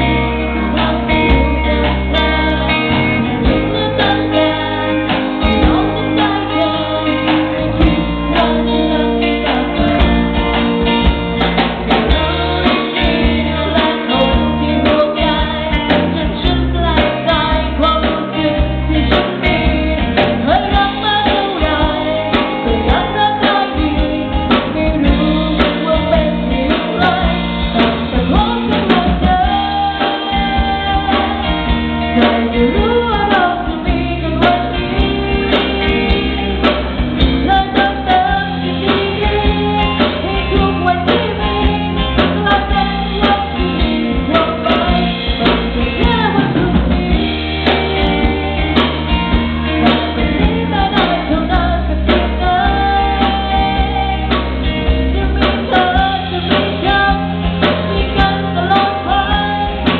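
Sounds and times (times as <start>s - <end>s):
bass guitar: 0.0s - 59.9s
drum kit beat: 0.0s - 59.9s
electric guitar: 0.0s - 59.9s
woman singing lead: 0.0s - 59.9s.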